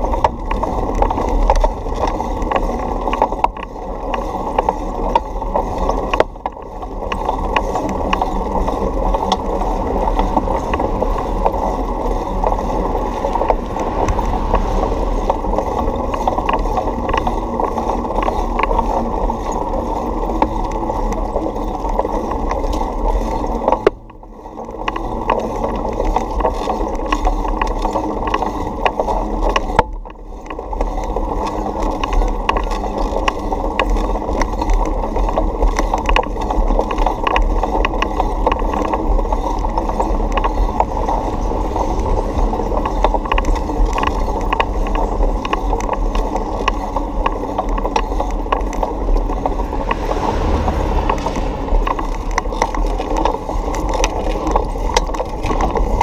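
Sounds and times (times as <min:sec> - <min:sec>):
bicycle rattles and clicks: 0:00.0 - 0:49.8, 0:52.1 - 0:56.0
bicycle tyres rumbling on pavement: 0:00.0 - 0:56.0.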